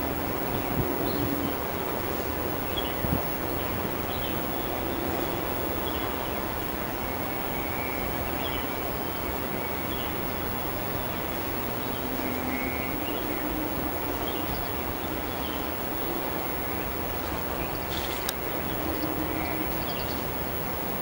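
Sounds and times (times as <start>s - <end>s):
outdoor background rumble: 0.0s - 21.0s.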